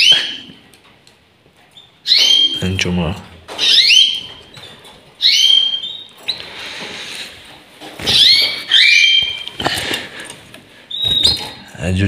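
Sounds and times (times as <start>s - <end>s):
canaries calling: 0.0s - 0.6s, 1.7s - 2.9s, 3.5s - 11.7s.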